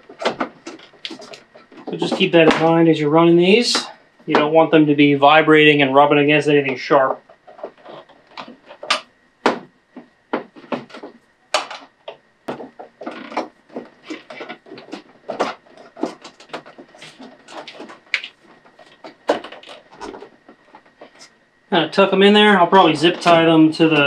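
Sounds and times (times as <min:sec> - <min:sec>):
cables rustling and knocking: 0:00.0 - 0:05.8, 0:06.4 - 0:21.4, 0:22.3 - 0:24.0.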